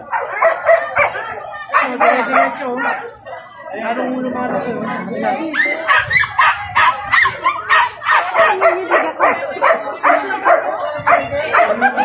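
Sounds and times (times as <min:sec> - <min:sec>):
dog barking and yelping: 0:00.0 - 0:03.8, 0:05.5 - 0:12.0.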